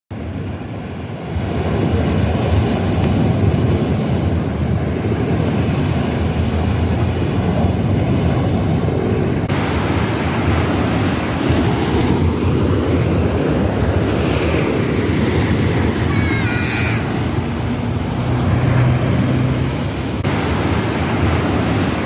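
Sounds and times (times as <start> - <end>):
sea waves breaking on shore: 0.1 - 22.0
wind buffeting microphone: 0.1 - 22.0.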